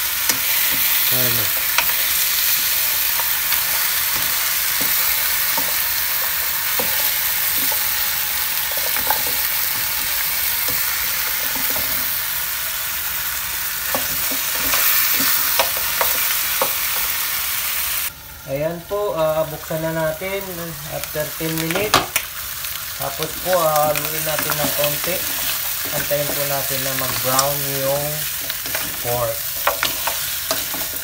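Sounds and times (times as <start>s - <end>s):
pork sizzling in a frying pan: 0.0s - 31.0s.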